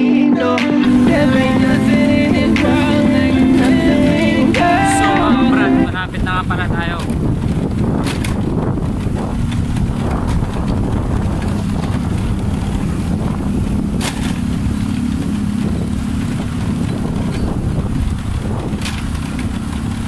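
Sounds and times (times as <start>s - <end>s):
motorcycle engine running: 0.0s - 20.0s
wind rushing over microphone: 0.9s - 20.0s.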